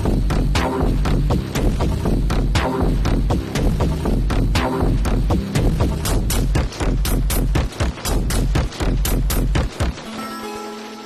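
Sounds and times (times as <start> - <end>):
deep continuous bass: 0.0 - 10.0
electronic synth music: 0.0 - 11.0.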